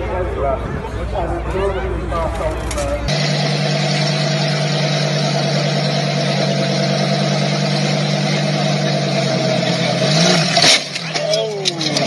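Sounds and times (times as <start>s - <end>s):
sports car engine idling: 2.1s - 12.0s.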